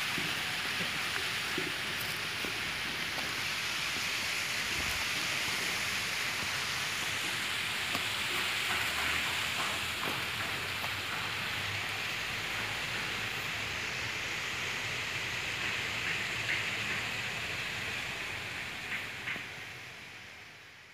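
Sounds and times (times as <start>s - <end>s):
bright steady hiss: 0.0s - 20.9s.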